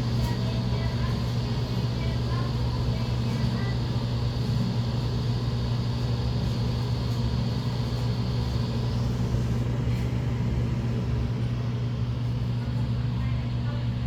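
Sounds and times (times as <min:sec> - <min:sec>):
exhaust fan motor hum: 0:00.0 - 0:14.0.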